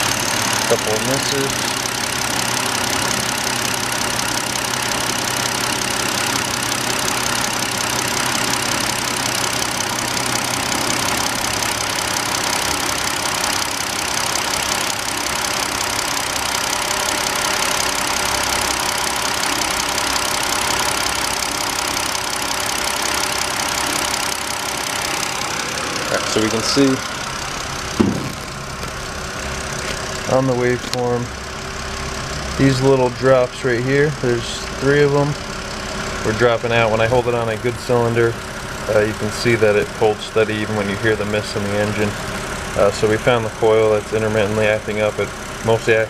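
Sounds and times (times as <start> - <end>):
car engine idling with misfire: 0.0 - 46.0.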